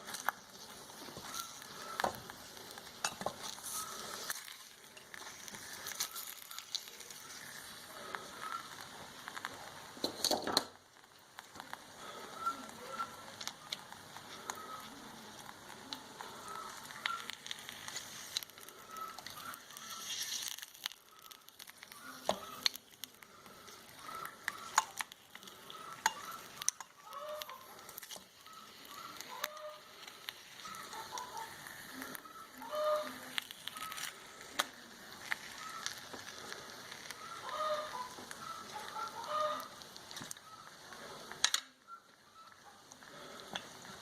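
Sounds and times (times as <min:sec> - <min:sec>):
egg sizzling on hot iron: 0:00.0 - 0:44.0.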